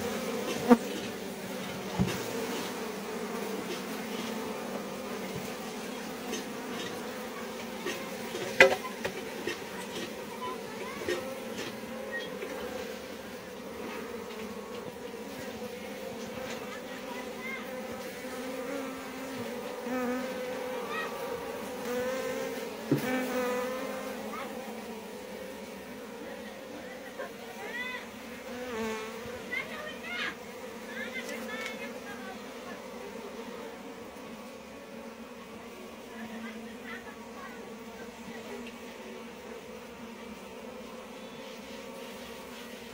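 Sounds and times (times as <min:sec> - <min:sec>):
honeybees buzzing: 0:00.0 - 0:42.9.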